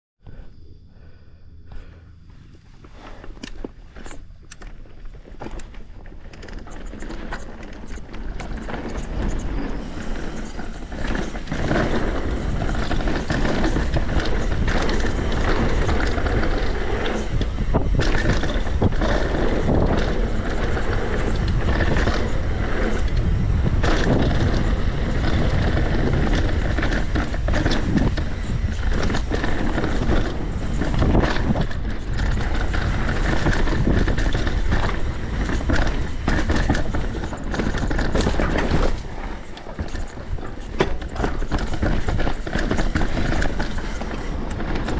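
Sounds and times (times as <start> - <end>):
bike knocking and rattling: 1.7 - 44.9
tyre roar on dirt: 1.7 - 44.9
wind rush: 5.0 - 44.9.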